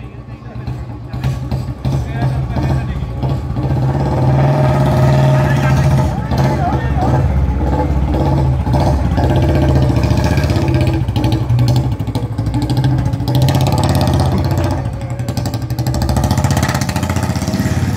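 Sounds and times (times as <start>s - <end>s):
motorcycle engine thumping: 0.6s - 4.2s, 6.0s - 17.9s.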